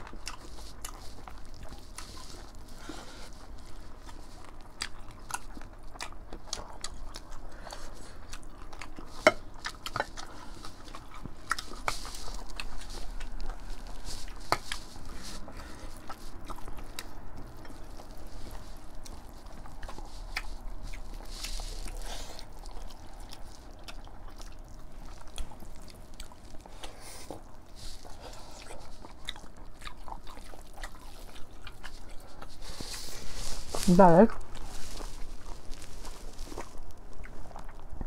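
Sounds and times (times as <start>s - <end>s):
crunches while eating: 0.0s - 38.0s
people chewing food: 0.0s - 38.0s.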